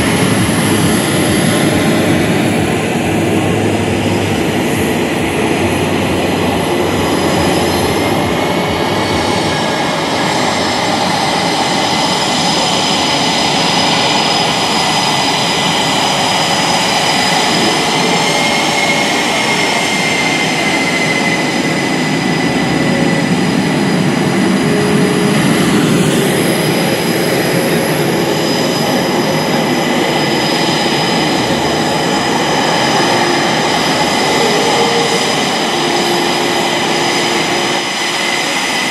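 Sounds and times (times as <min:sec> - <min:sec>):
jet engines whining and roaring: 0:00.0 - 0:38.9.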